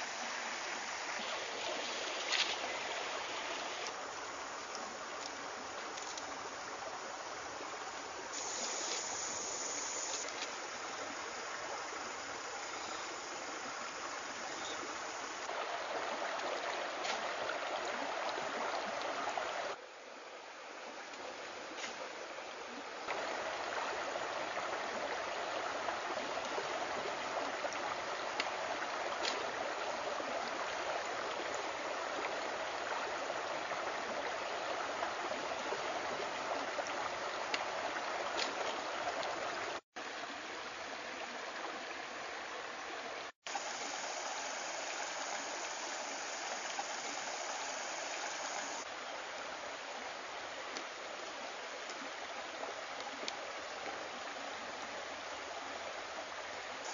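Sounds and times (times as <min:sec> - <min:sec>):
stream running over rocks: 0:00.0 - 0:56.9.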